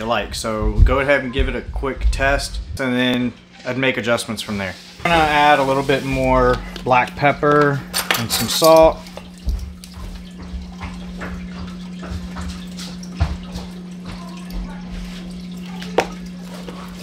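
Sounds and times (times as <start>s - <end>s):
aquarium filter hum and trickle: 0.0s - 17.0s.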